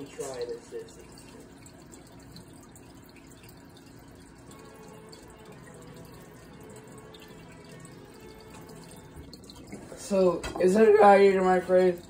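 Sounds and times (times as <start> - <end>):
faint music: 0.0 - 12.0.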